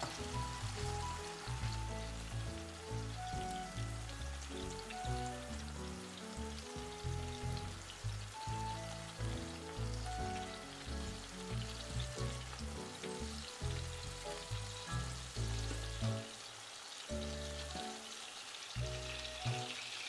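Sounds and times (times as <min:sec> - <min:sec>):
background music with bass line: 0:00.0 - 0:16.4, 0:18.8 - 0:19.7
tomato slices sizzling in pan: 0:00.0 - 0:20.0.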